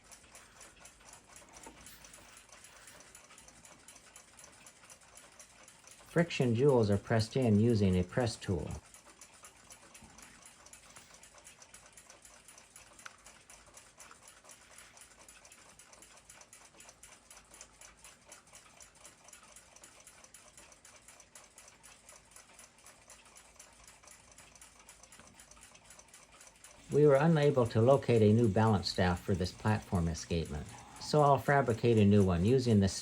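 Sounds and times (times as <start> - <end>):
faint rapid clock ticking: 0.0 - 33.0.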